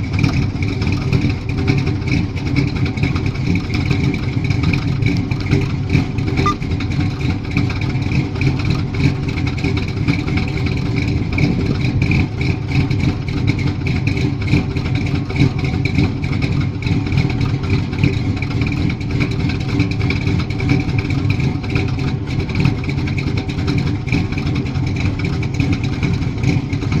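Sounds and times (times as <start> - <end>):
engine deep rumble: 0.0 - 27.0.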